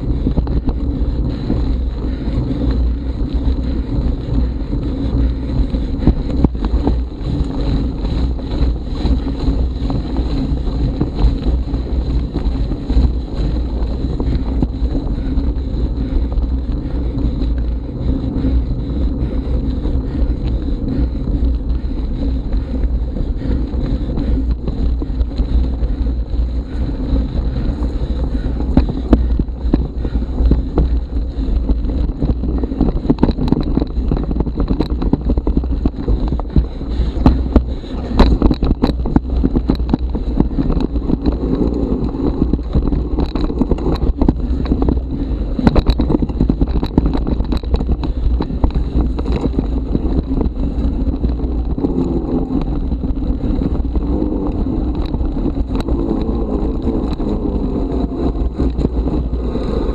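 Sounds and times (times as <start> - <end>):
bike clicks and knocks: 0.0 - 59.9
mountain bike riding over trail: 0.0 - 59.9
wind buffeting microphone: 0.0 - 59.9.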